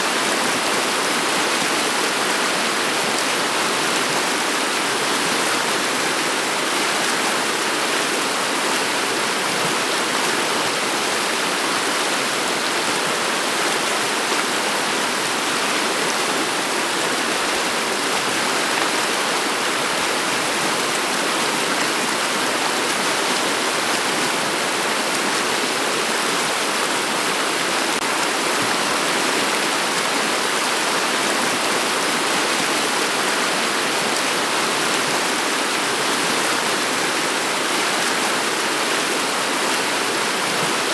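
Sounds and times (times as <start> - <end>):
river water flowing over pebbles: 0.0 - 40.9.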